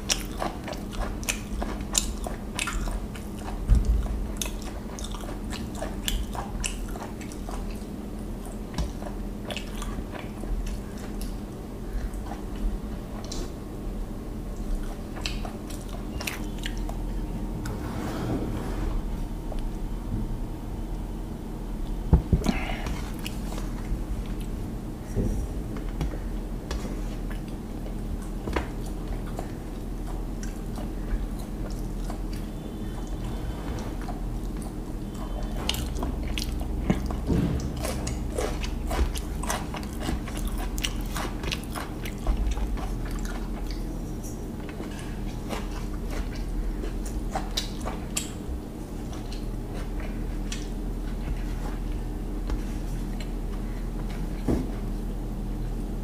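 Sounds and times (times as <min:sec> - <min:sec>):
close chewing: 0:00.0 - 0:13.6, 0:14.3 - 0:17.8, 0:21.8 - 0:55.9
steady low hum: 0:00.0 - 0:56.0.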